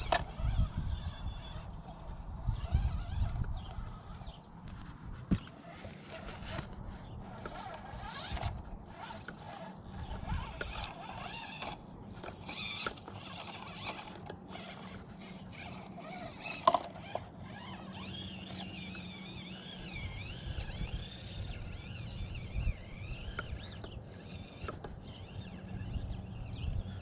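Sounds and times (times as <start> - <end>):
rc truck motor whining: 0.0 - 27.0.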